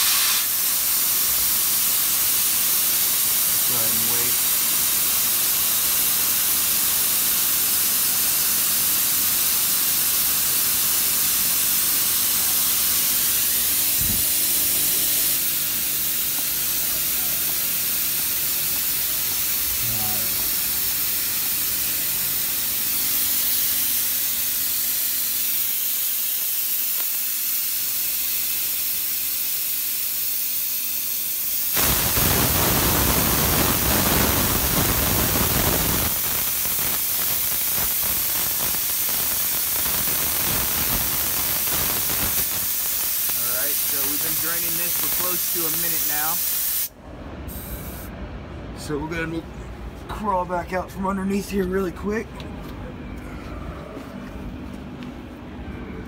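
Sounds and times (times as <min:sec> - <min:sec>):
compressed air hissing: 0:00.0 - 0:46.9, 0:47.5 - 0:48.1.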